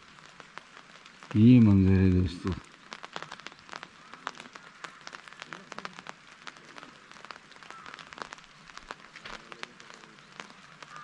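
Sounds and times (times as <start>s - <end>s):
rain hiss: 0.0s - 11.0s
raindrops ticking: 0.0s - 11.0s.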